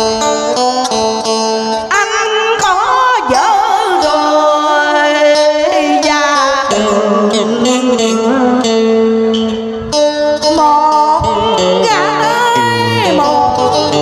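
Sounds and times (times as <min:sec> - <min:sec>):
plucked electric guitar: 0:00.0 - 0:14.0.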